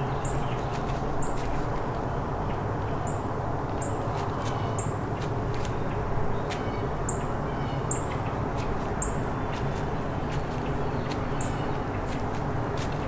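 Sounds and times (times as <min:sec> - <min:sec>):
songbird chip notes: 0:02.2 - 0:13.0.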